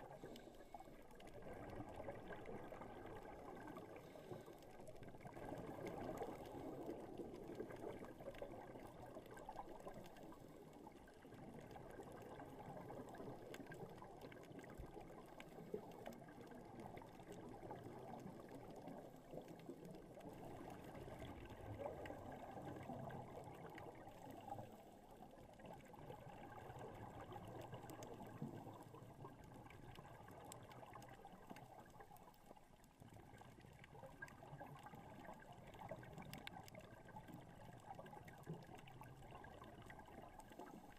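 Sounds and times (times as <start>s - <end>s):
faint clicks: 0.0s - 40.9s
muffled underwater water noise: 0.0s - 40.9s.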